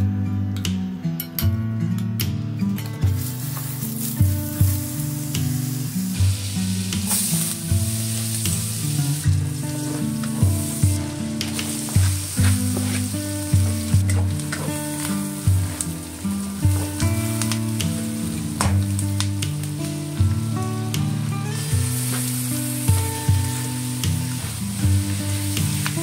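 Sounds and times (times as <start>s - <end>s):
soft guitar music: 0.0s - 26.0s
garlic and onion sizzling in a wok: 3.0s - 26.0s.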